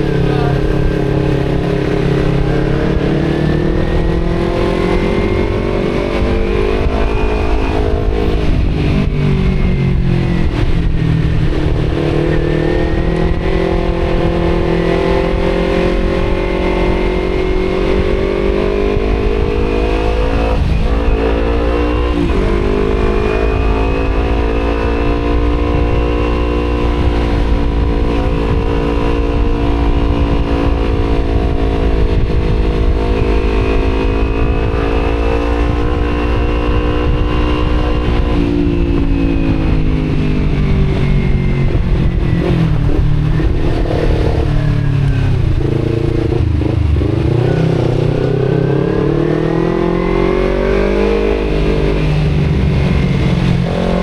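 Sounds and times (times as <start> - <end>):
motorcycle engine revving: 0.0 - 54.0
wind rumble on microphone: 0.0 - 54.0.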